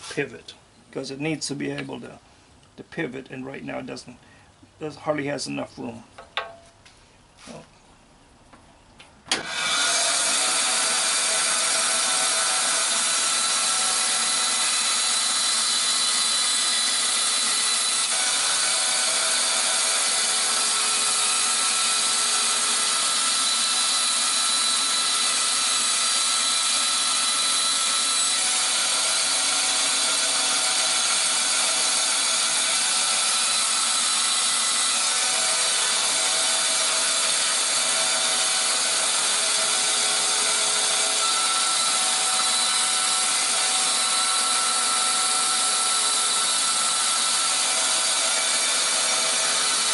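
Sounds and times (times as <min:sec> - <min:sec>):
power saw cutting plywood: 0:09.3 - 0:49.9.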